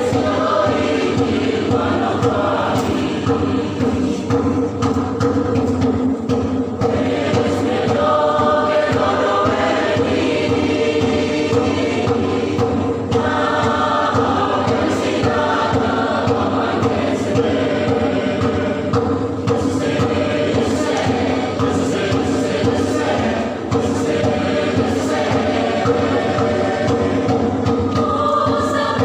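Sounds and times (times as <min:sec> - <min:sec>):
choir singing a hymn: 0:00.0 - 0:29.0.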